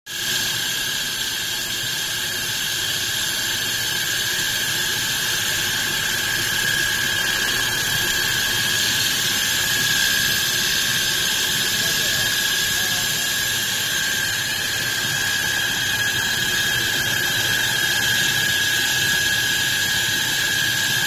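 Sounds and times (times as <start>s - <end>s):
polishing machine whining: 0.7s - 21.0s.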